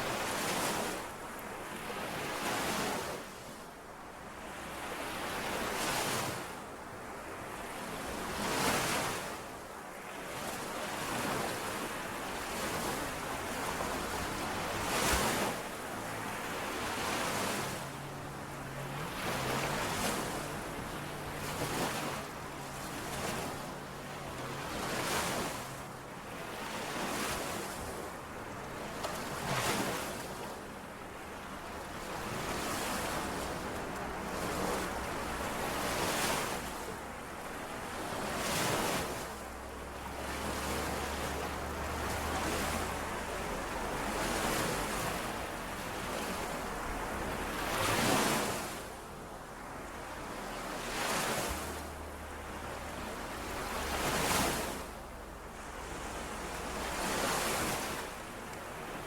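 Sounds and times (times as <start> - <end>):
lake waves washing on shore: 0.0 - 59.0.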